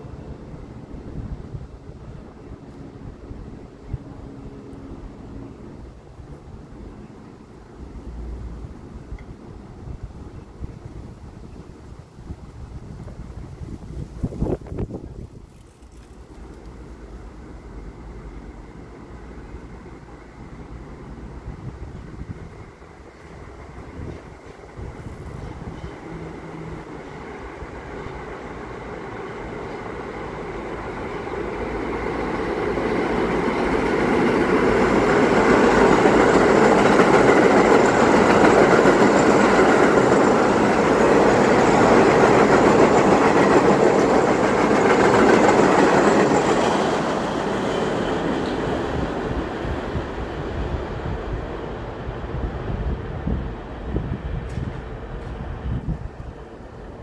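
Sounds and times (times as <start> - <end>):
subway train passing: 0.0 - 57.0.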